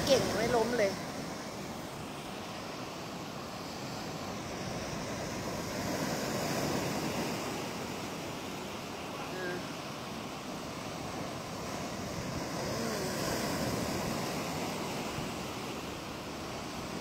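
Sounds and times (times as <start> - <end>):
breaking waves: 0.0 - 17.0.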